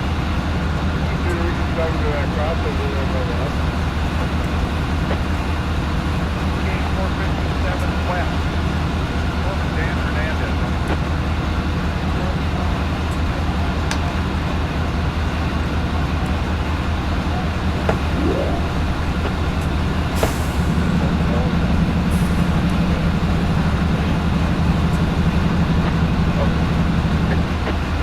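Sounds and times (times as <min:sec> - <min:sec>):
diesel locomotive engine idling: 0:00.0 - 0:28.0.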